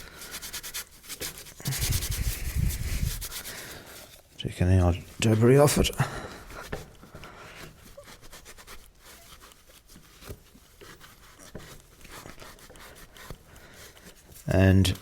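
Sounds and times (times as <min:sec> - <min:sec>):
rubbing and scraping: 0:00.0 - 0:15.0.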